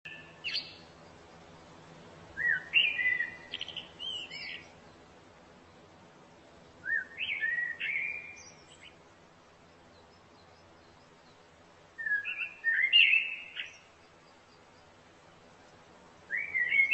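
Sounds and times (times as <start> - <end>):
songbird singing: 0.0 - 16.9.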